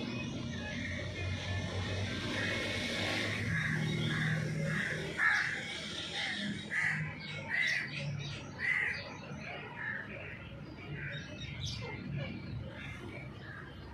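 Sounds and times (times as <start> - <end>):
birds giving harsh calls: 0.0 - 13.9.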